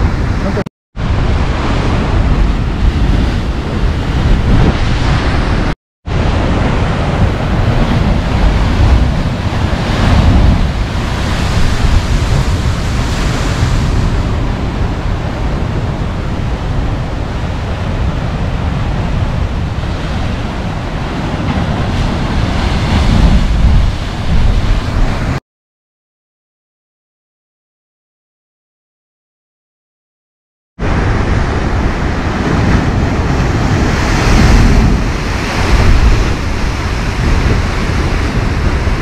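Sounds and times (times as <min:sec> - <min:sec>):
surf crashing on rocks: 0:00.0 - 0:25.4, 0:30.8 - 0:39.0.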